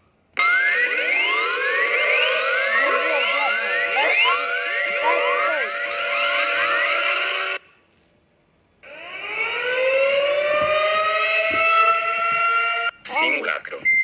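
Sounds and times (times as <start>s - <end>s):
overlapping rising siren tones: 0.4s - 7.6s, 8.8s - 13.4s
siren winding up to a wail: 0.4s - 7.6s, 8.8s - 13.0s.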